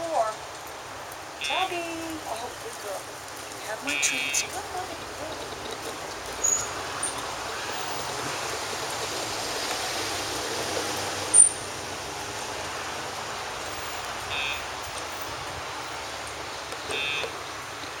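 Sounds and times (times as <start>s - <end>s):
rushing background noise: 0.0s - 18.0s.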